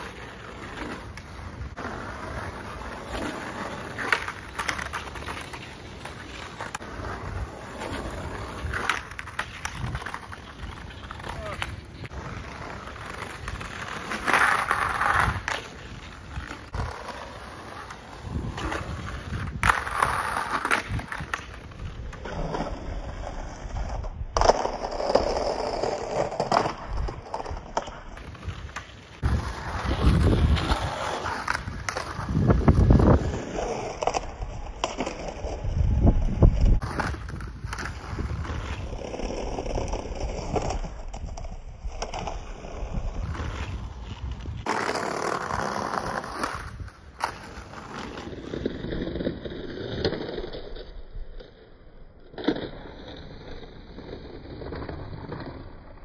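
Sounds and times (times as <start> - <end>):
skateboard grinding along curb: 0.0 - 56.0
skateboard wheels rolling on paving: 0.0 - 56.0.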